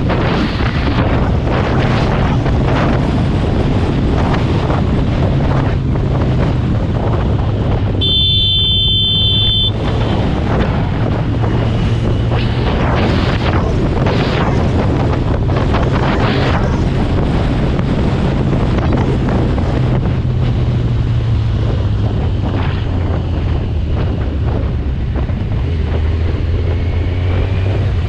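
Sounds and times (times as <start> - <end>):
wind rushing over microphone: 0.0 - 28.0
motorcycle engine humming: 0.7 - 14.0, 16.8 - 28.0.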